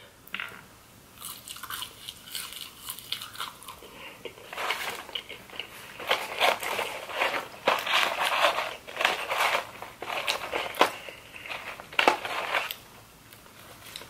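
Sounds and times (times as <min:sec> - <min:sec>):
person chewing crunchy fries: 0:01.2 - 0:12.8.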